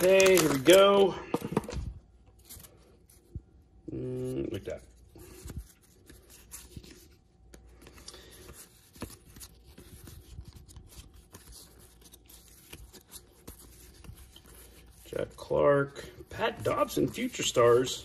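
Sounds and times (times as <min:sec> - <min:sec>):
cardboard cards rustling: 0:00.0 - 0:03.4, 0:04.2 - 0:15.6, 0:16.2 - 0:18.0.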